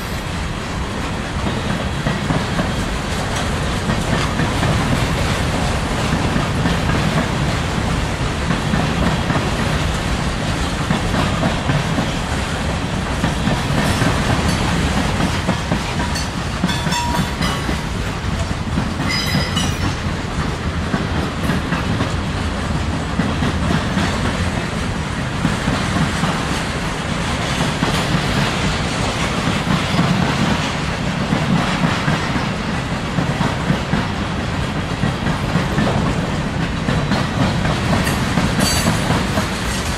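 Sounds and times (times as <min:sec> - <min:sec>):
train wheels rumbling and clacking: 0:00.0 - 0:39.9.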